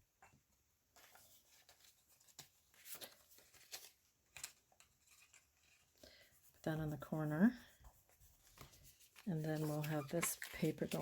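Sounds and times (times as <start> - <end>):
paper rustling: 0.9 - 6.6, 7.6 - 11.0.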